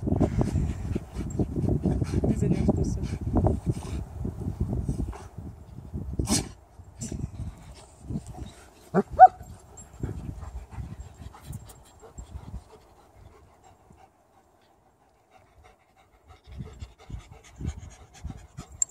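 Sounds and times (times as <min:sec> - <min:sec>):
dogs panting: 0:00.1 - 0:04.1, 0:07.2 - 0:18.9.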